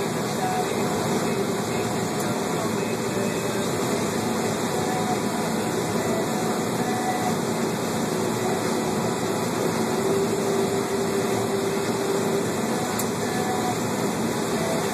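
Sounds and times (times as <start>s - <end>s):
combine harvester drone: 0.0s - 14.9s
faint hum: 0.0s - 14.9s.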